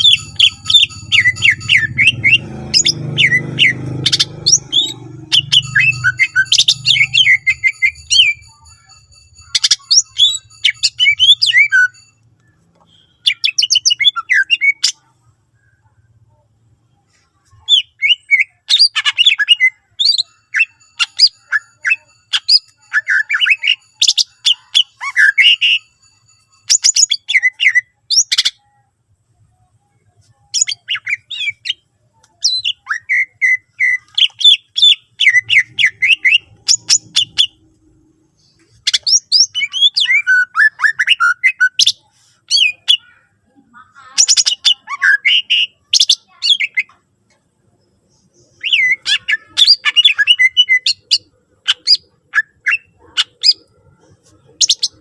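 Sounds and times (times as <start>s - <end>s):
bird singing chirps and trills: 0.0s - 55.0s.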